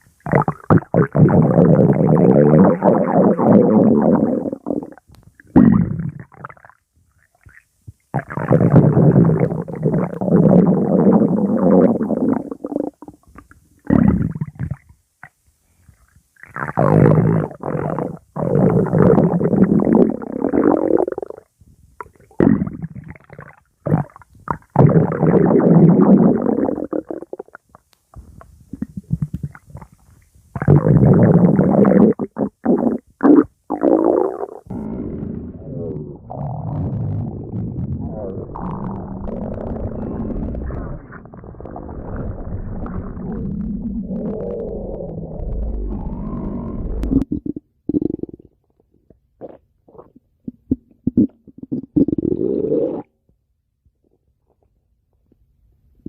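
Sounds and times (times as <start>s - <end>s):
stomach growling: 0.2s - 53.4s.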